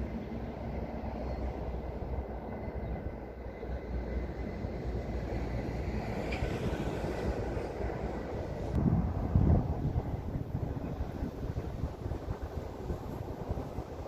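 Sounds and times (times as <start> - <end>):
passing train rumble: 0.0 - 14.0.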